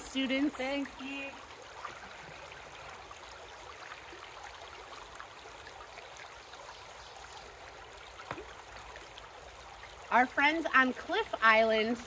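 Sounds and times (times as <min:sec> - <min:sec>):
river water babbling over rocks: 0:00.0 - 0:12.0.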